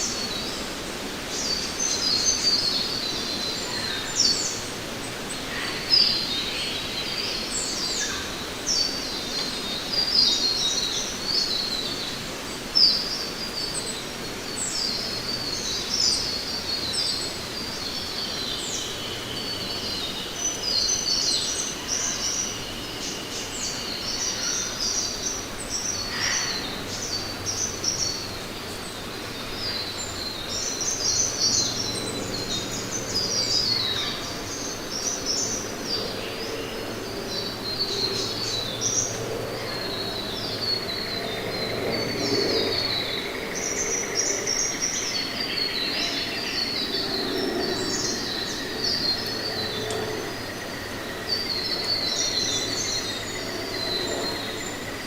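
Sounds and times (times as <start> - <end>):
steady background hiss: 0.0 - 55.0
birds chirping: 1.4 - 55.0.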